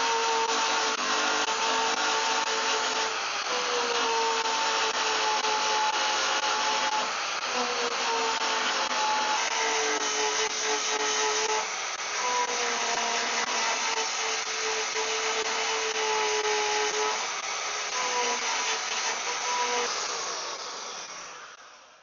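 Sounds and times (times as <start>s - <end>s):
angle grinder grinding metal: 0.0s - 21.6s.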